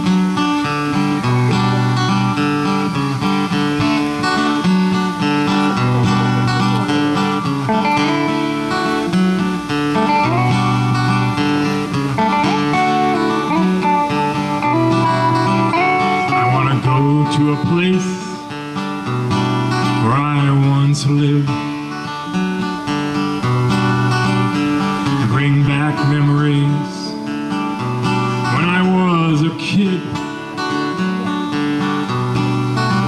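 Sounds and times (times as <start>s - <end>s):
acoustic guitar strumming: 0.0s - 33.0s
electric guitar playing: 0.0s - 33.0s.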